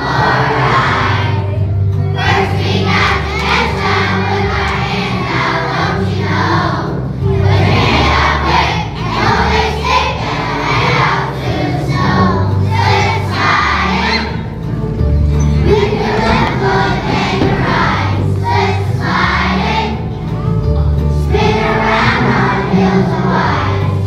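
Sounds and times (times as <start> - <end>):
children's choir singing: 0.0 - 24.0
instrumental accompaniment: 0.0 - 24.0.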